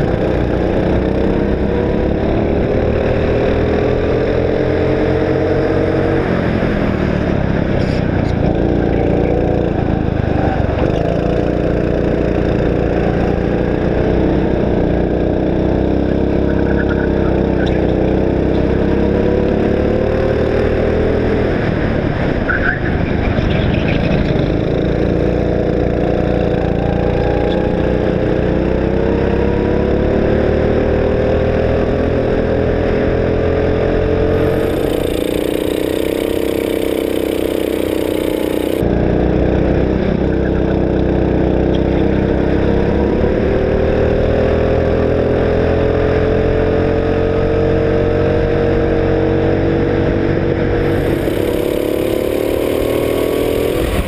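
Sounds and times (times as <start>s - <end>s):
go-kart engine at racing speed: 0.0s - 54.0s.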